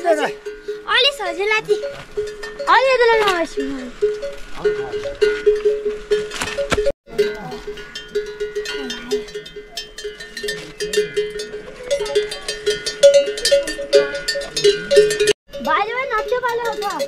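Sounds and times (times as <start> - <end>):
livestock bells clanking: 0.0 - 17.0.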